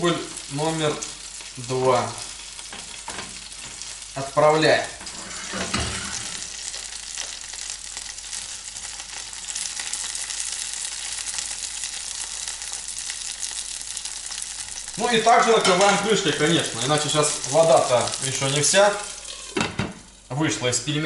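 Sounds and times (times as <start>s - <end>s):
dumplings sizzling in hot oil: 0.0s - 20.9s.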